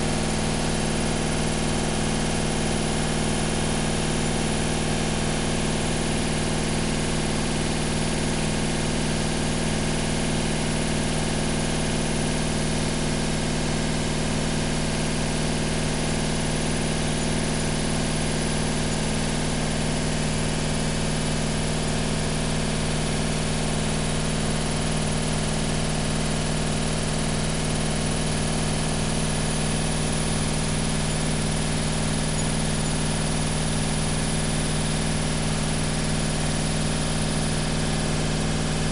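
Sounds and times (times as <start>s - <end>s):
washing machine motor hum: 0.0s - 7.4s, 14.2s - 38.9s.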